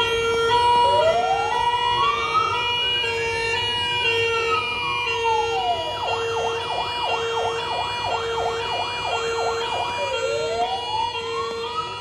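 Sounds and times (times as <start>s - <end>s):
fire engine siren wailing and yelping: 0.0s - 12.0s.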